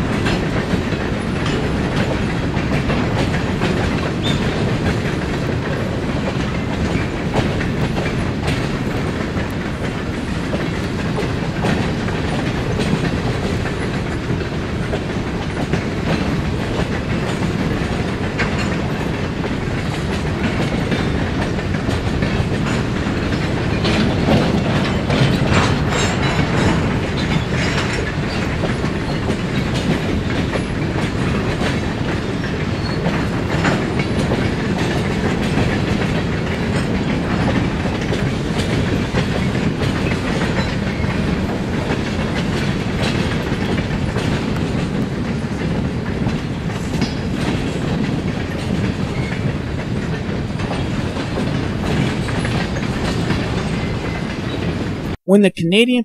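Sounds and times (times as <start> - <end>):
freight train rumbling past: 0.0 - 55.2
wheels clicking over rail joints: 0.0 - 55.2.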